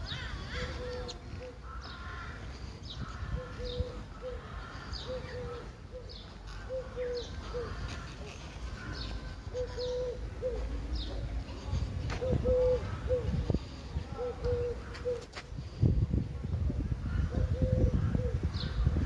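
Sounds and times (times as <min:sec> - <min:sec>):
birds calling: 0:00.0 - 0:15.4.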